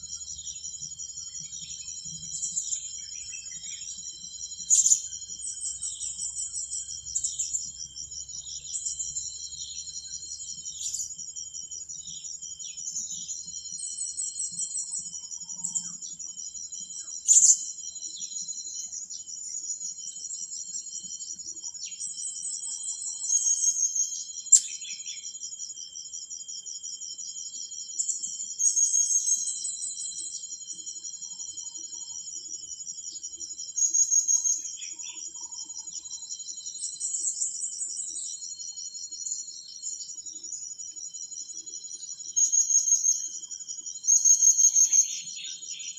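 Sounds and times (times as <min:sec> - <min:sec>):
insects trilling: 0:00.0 - 0:45.9.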